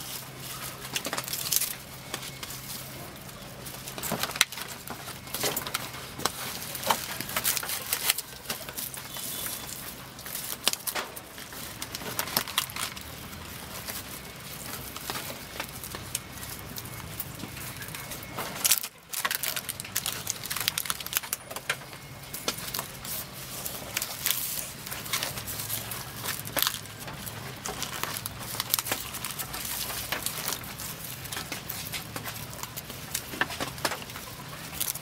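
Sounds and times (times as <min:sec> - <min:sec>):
leaves rustling and crackling: 0:00.0 - 0:35.0.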